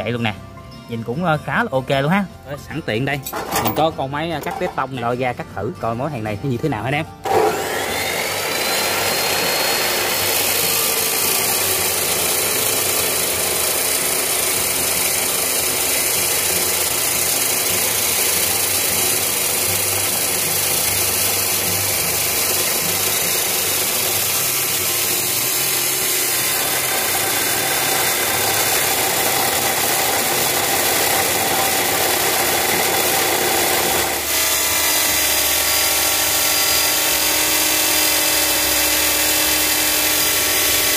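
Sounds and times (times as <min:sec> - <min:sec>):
chop saw grinding through steel: 0:03.2 - 0:05.1, 0:06.6 - 0:40.9.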